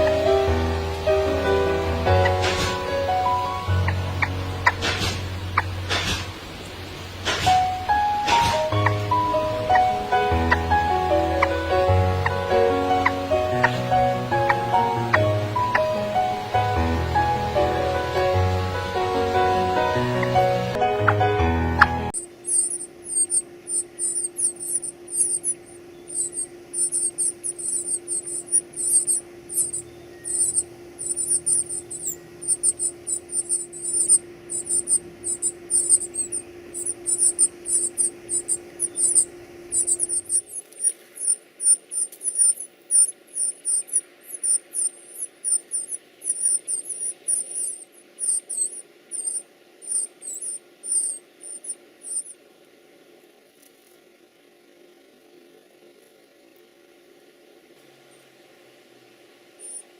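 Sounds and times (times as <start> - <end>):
nestling sparrows begging calls: 0.0 - 52.3, 59.6 - 59.9
steady low hum: 0.0 - 59.9.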